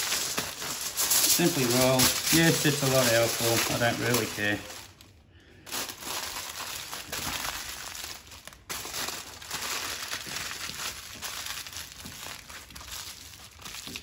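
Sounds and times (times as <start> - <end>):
foil crinkling: 0.0 - 14.0.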